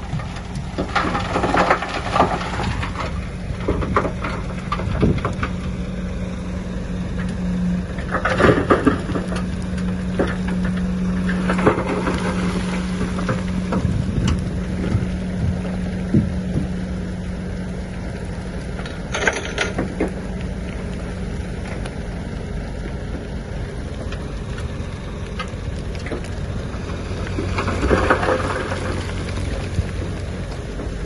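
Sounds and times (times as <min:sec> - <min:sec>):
bulldozer diesel engine running: 0:00.0 - 0:31.0
soil and stone crunching: 0:00.0 - 0:31.0.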